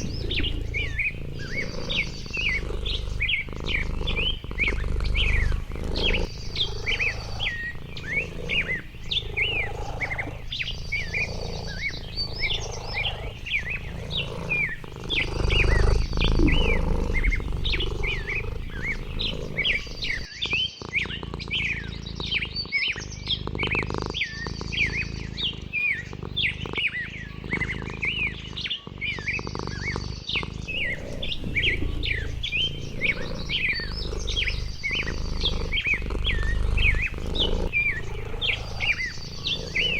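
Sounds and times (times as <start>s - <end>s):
birds chirping: 0.0s - 39.9s
high buzzy bird song: 0.0s - 39.9s.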